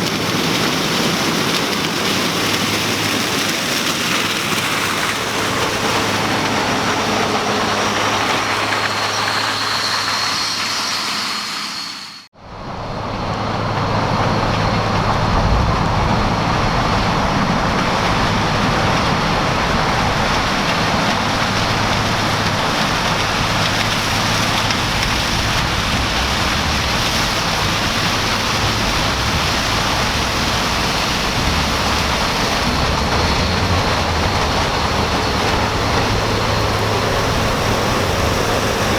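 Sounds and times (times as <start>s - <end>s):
harvesting machinery running: 0.0s - 38.9s.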